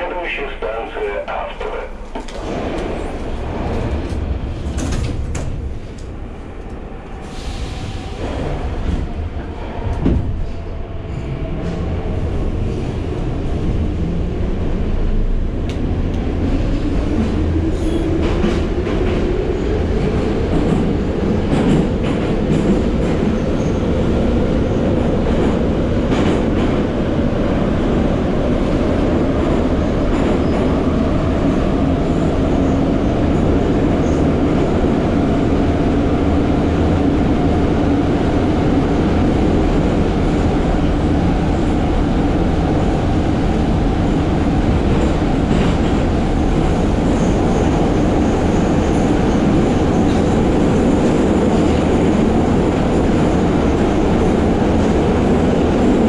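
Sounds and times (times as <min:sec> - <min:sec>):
metro train motor whine and roar: 0:00.7 - 0:56.0.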